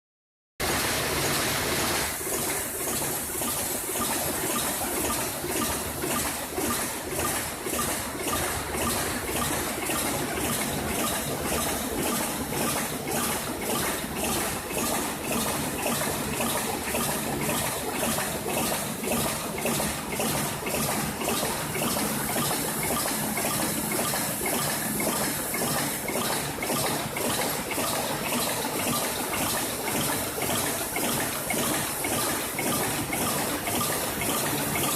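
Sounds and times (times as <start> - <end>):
machine hissing and ticking: 2.3 - 34.9.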